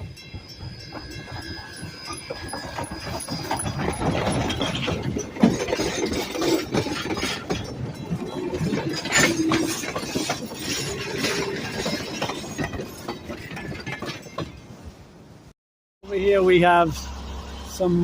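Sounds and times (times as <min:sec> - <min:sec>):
train cars rattling over track: 0:00.0 - 0:15.3, 0:16.0 - 0:18.0.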